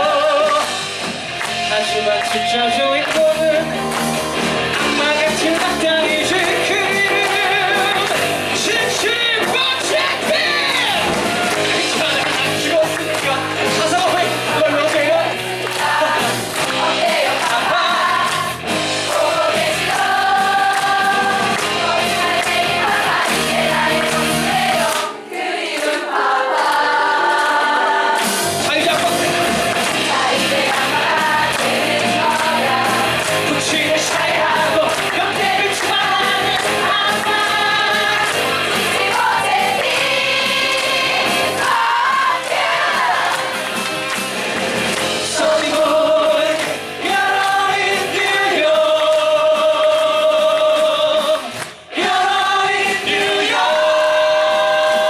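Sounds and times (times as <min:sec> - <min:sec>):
vocal group singing in harmony: 0:00.0 - 0:00.9, 0:04.6 - 0:55.0
band playing: 0:00.0 - 0:55.0.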